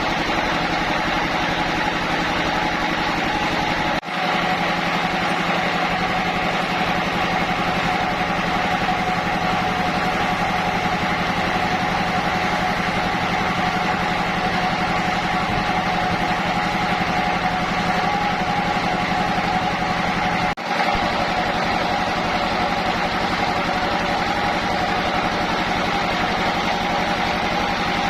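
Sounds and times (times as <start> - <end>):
sawmill machinery drone: 0.0 - 28.0.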